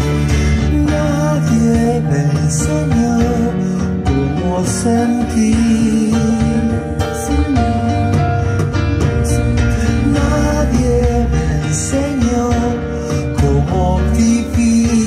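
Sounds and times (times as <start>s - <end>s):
guitar song with singing: 0.0s - 15.0s.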